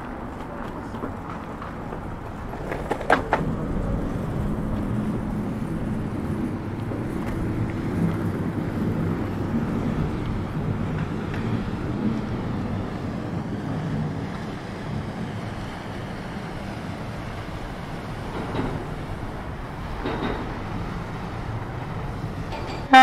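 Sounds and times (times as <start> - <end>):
low rumble of traffic: 0.0 - 23.0.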